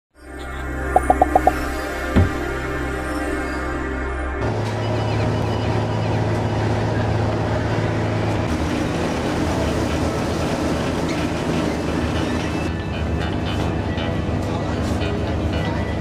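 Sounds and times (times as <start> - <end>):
ferry engines droning: 1.8 - 16.0.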